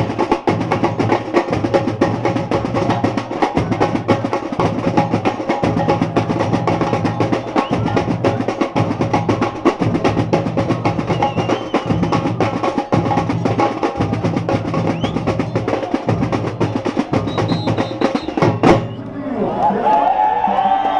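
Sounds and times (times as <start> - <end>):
percussion band drumming: 0.0 - 19.0.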